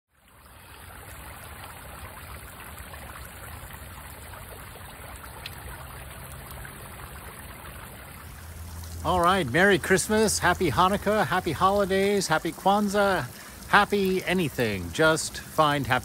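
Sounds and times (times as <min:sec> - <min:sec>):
fountain water trickling and splashing: 0:00.1 - 0:16.0.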